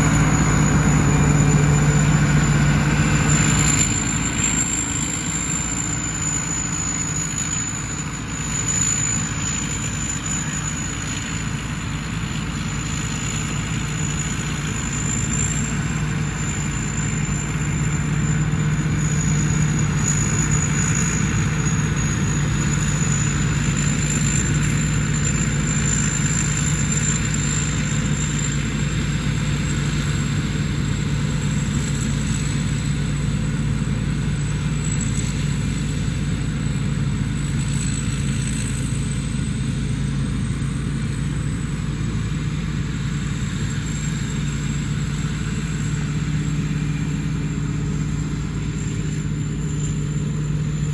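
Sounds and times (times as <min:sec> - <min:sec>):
combine harvester engine drone: 0:00.0 - 0:50.9
high whine: 0:00.0 - 0:50.9.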